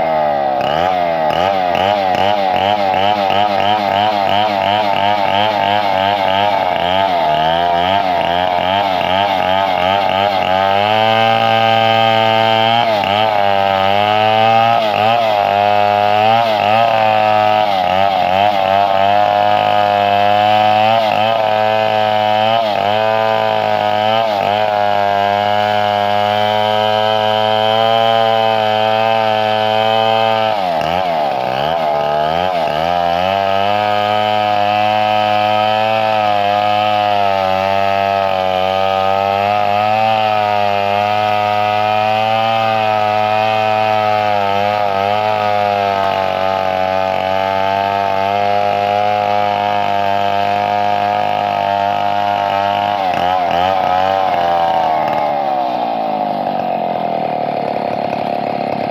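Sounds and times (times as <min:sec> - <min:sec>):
chainsaw running at high speed: 0:00.0 - 0:58.9.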